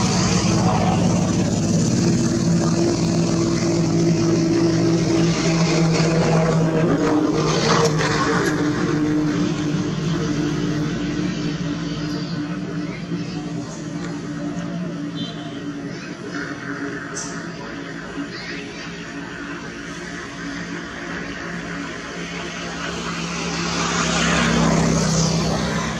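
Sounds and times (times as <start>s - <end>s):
low motor hum: 0.0s - 25.9s.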